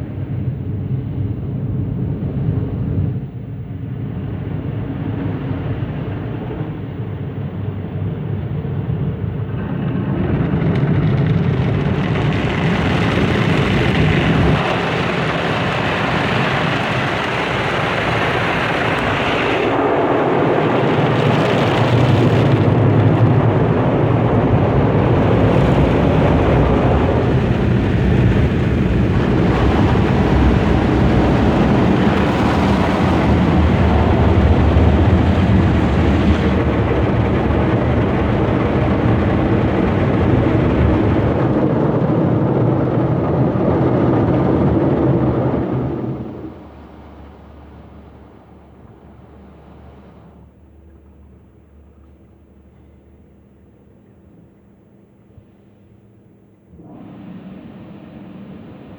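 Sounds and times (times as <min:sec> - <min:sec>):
car wash machinery and spray: 0:03.9 - 0:51.8
low hum: 0:04.0 - 0:58.9.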